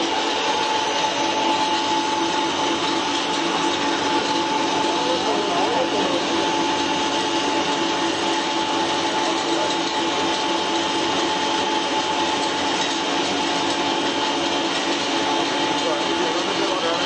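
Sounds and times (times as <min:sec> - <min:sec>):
pellet mill running with whine: 0:00.0 - 0:17.0.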